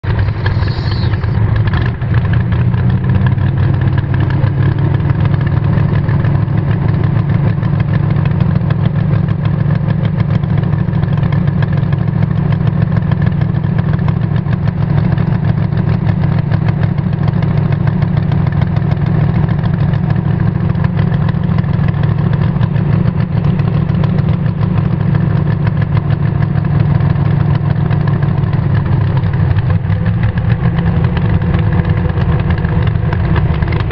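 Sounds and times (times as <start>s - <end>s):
dragster engine idling loudly: 0.0s - 33.9s.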